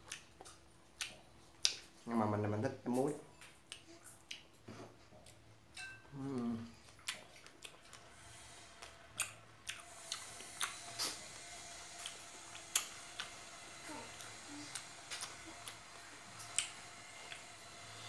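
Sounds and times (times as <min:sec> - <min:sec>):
chewing with wet mouth clicks: 0:00.0 - 0:02.0, 0:03.0 - 0:06.0, 0:06.7 - 0:08.1, 0:08.8 - 0:13.5, 0:14.1 - 0:17.8.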